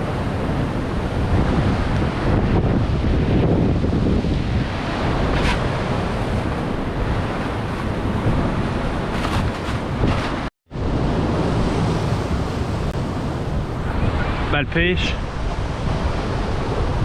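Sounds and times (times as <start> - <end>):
sea surf washing: 0.0 - 17.0
wind buffeting microphone: 0.0 - 17.0.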